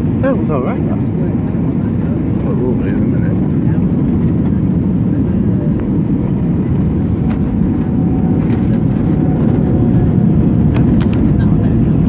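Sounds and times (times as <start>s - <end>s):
airliner engines and wheels rumbling: 0.0s - 12.0s.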